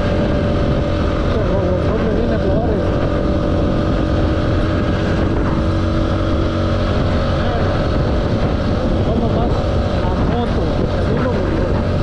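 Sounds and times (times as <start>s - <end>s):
motorcycle engine running: 0.0s - 12.0s
steady rush of noise: 0.0s - 12.0s.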